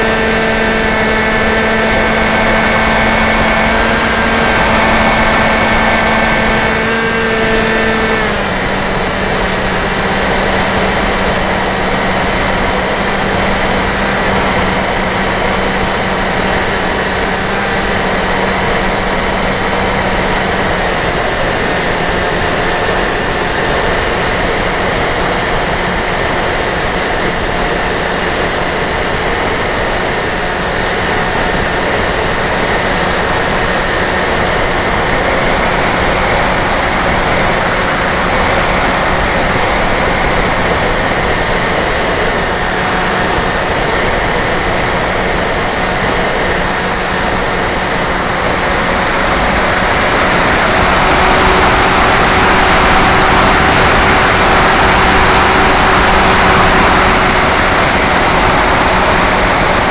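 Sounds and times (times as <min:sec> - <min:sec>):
electric motor and propeller: 0:00.0 - 0:59.9.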